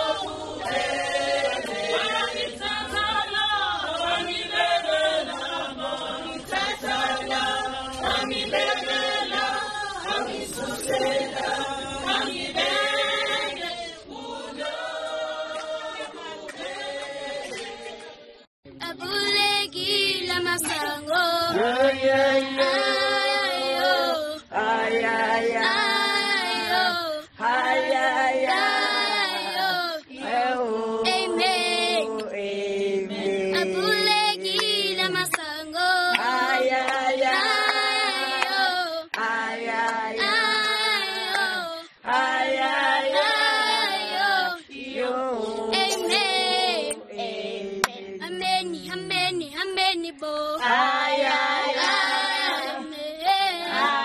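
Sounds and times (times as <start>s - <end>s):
voices singing without instruments: 0.0s - 54.0s.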